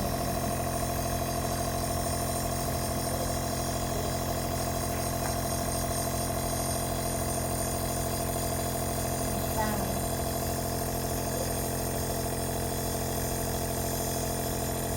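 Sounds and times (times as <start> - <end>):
nebulizer pump motor humming: 0.0 - 14.9.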